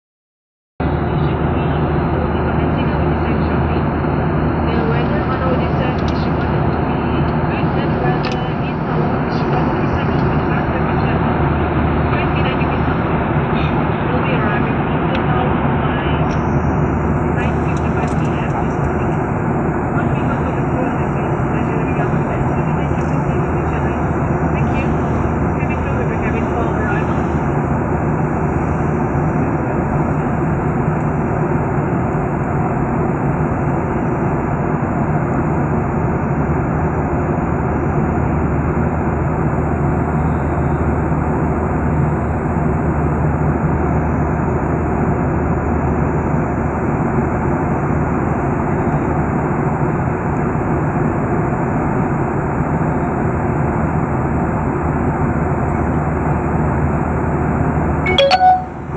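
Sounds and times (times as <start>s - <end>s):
constant low hum: 0.8s - 57.9s
airliner cabin engine noise: 0.8s - 58.9s.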